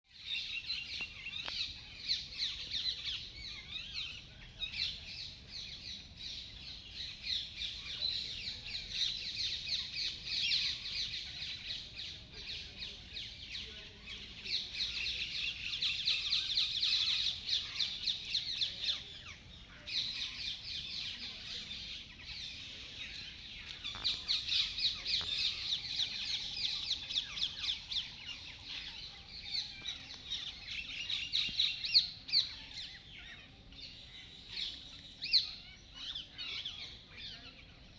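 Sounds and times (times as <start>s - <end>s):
many birds chirping: 0.1s - 37.9s.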